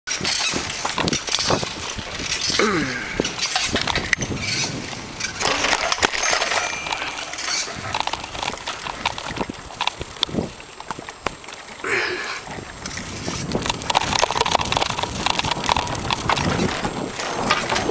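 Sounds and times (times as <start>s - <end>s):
bicycle basket rattling: 0.1s - 17.9s.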